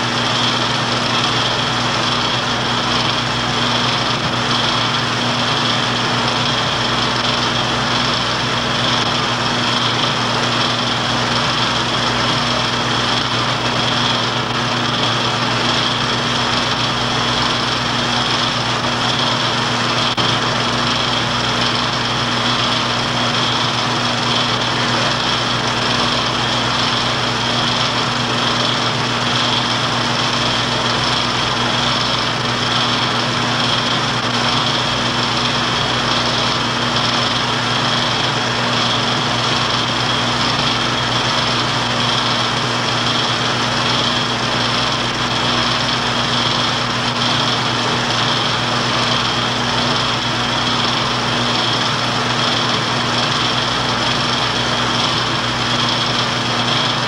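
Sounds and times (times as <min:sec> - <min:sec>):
film projector whirring: 0:00.0 - 0:57.0.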